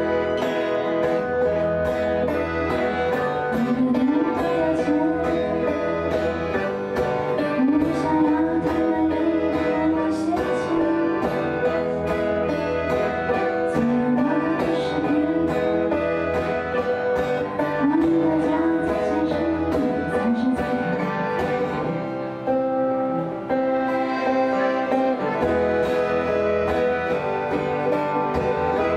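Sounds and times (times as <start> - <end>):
accordion chords: 0.0 - 28.9
plucked string instrument: 0.0 - 28.9.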